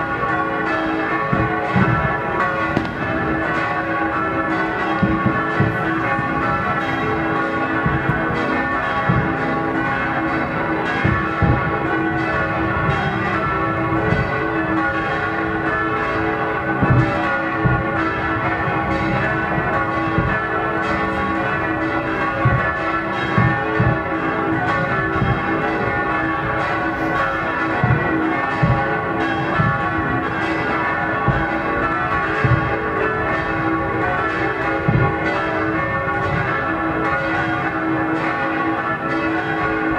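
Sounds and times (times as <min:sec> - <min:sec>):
church bells pealing: 0:00.0 - 0:39.9
fireworks low bangs: 0:01.0 - 0:38.7.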